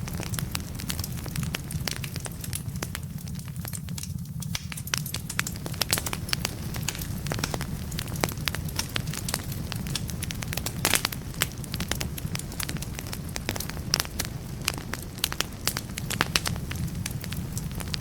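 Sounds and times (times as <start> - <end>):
fire low rumble: 0.0 - 18.0
wood fire crackling and popping: 0.0 - 18.0.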